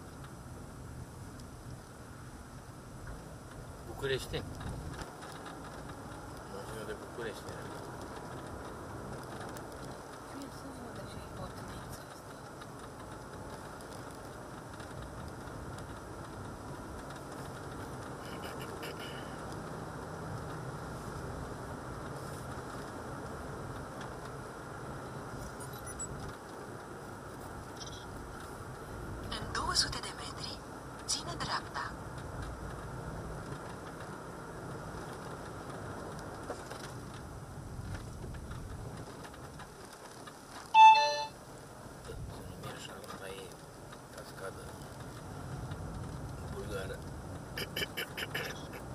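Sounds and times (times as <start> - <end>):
road and engine noise in car: 0.0 - 48.9
faint ticks and rattles: 3.0 - 40.8, 41.4 - 48.9.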